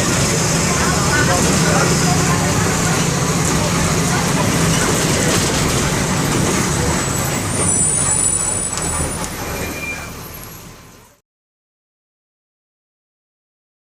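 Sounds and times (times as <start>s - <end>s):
bus diesel engine rumbling: 0.0s - 11.2s.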